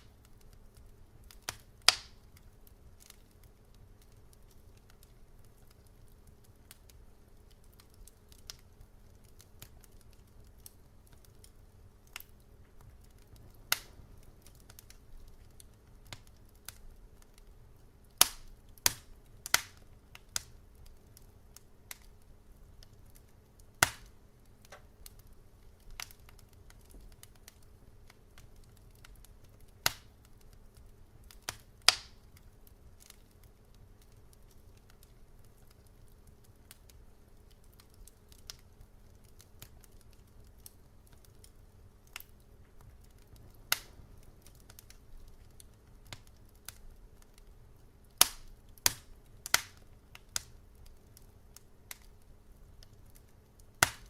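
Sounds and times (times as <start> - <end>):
faint low rumble: 0.0 - 53.6
wood fire crackling: 0.0 - 54.0.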